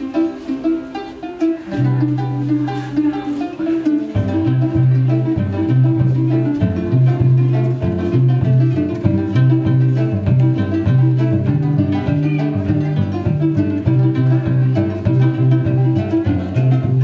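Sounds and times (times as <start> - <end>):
plucked harps ensemble: 0.0 - 17.0.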